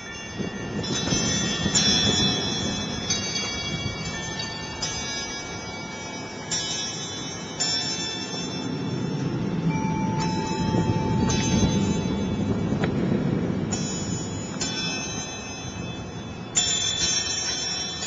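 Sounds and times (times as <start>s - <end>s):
rush of wind: 0.0s - 18.0s
tubular wind chime ringing: 0.0s - 18.0s.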